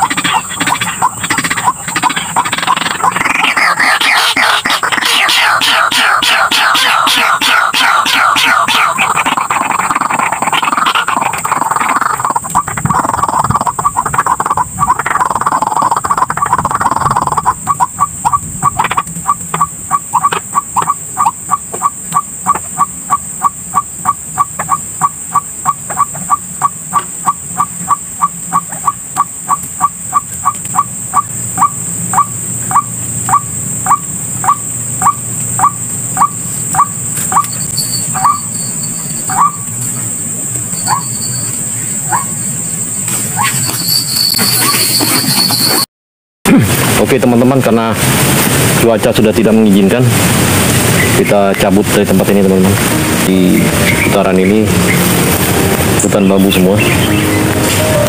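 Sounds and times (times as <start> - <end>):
waterhen calling: 0.0 - 45.0, 50.6 - 58.0.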